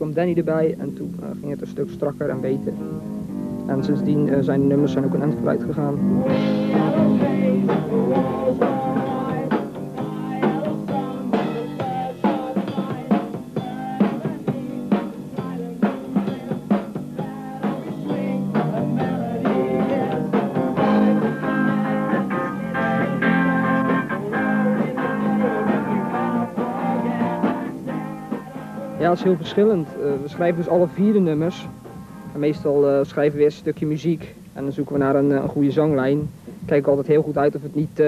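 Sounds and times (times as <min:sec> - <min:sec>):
drum kit beating: 0:00.0 - 0:38.0
sustained guitar chords: 0:00.8 - 0:32.9.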